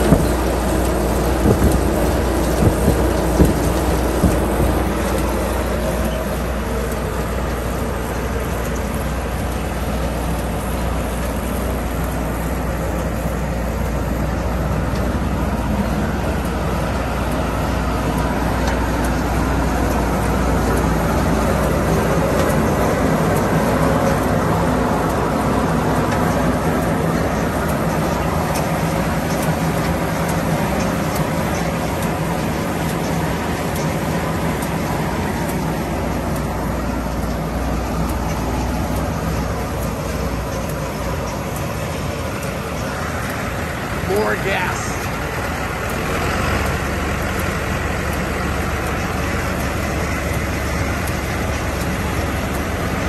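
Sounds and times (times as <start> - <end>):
harvester mechanical drone: 0.0 - 53.0.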